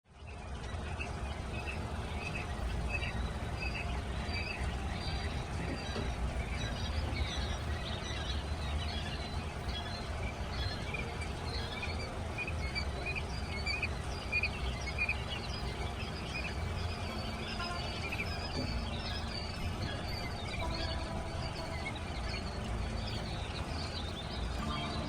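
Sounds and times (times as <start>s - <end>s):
chicks peeping: 0.1s - 25.0s.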